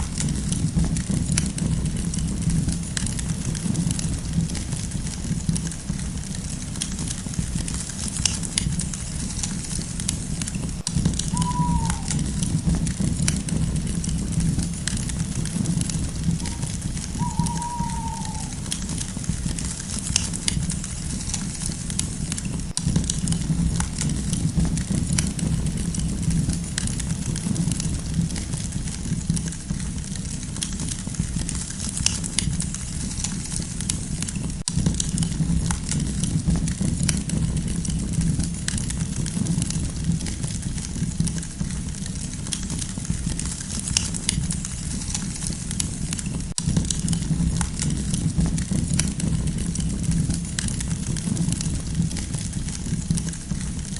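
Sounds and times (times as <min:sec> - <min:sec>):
campfire crackling and popping: 0:00.0 - 0:53.9
low rumble of flames: 0:00.0 - 0:53.9.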